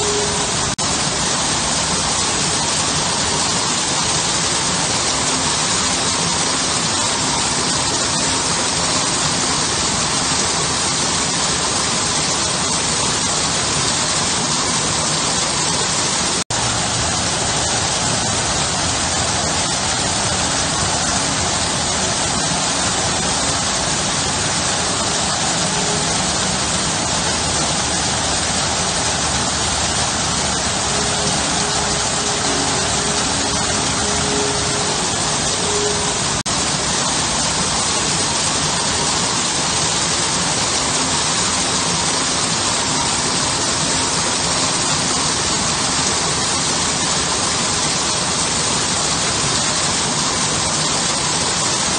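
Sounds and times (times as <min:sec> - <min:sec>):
waterfall splashing into pool: 0:00.0 - 0:51.9.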